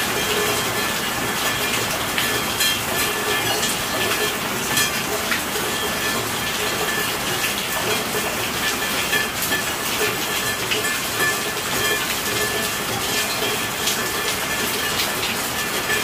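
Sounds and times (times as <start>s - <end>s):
raindrop hits: 0.0s - 16.0s
steady rainfall hiss: 0.0s - 16.0s.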